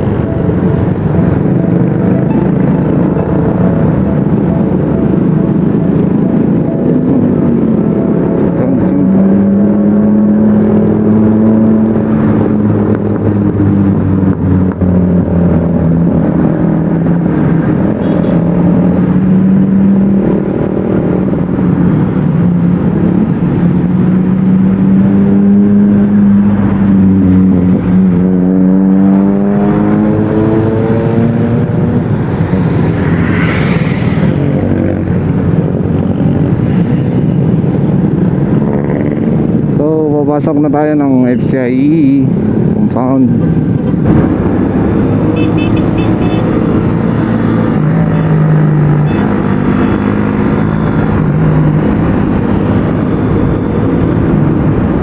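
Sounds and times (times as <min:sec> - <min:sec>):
motorcycle engine accelerating: 0:00.0 - 0:39.7, 0:43.4 - 0:55.0.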